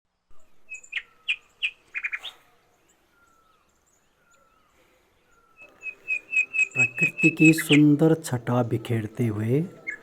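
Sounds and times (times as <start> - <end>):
wild birds singing: 0.1 - 10.0.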